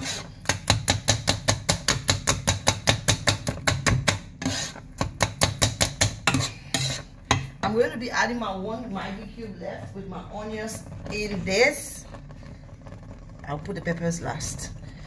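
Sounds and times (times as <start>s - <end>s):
whisk beating leaves in a pot: 0.0s - 9.1s, 10.0s - 15.0s.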